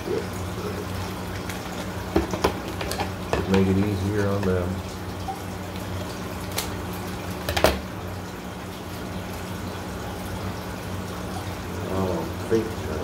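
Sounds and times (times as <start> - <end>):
aquarium hum and water: 0.0 - 13.0.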